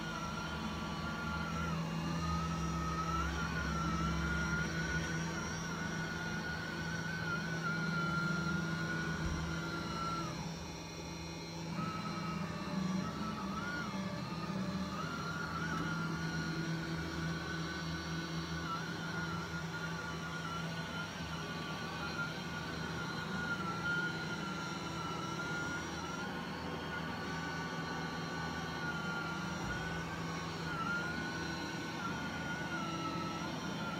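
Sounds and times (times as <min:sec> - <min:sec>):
robot vacuum running: 0:00.0 - 0:33.9.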